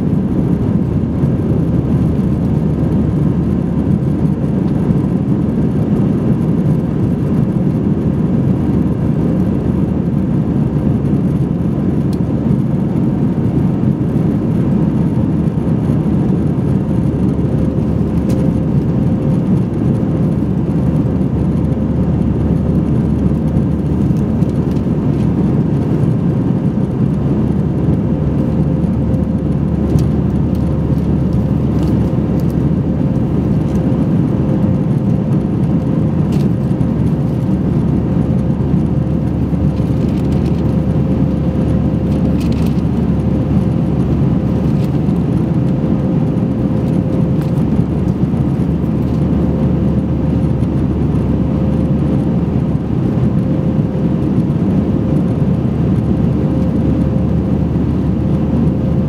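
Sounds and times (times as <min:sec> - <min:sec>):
jet engine and airflow roar: 0:00.0 - 0:59.0
steady cabin hum: 0:00.0 - 0:59.0.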